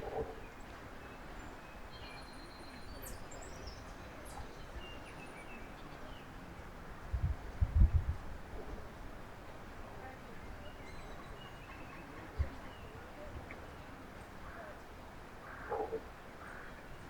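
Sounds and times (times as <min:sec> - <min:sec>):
low outdoor background hiss: 0:00.0 - 0:17.0.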